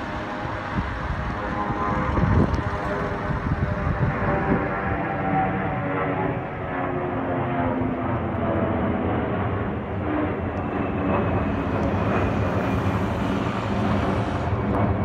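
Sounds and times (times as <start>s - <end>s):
jet roar overhead: 0.0s - 15.0s.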